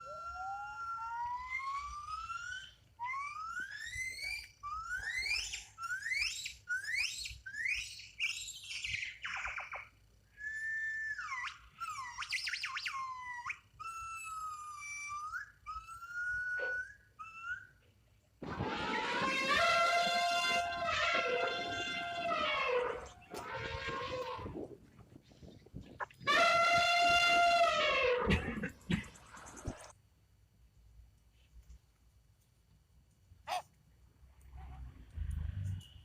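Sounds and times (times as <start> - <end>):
animal whistle-like calls: 0.0 - 29.9.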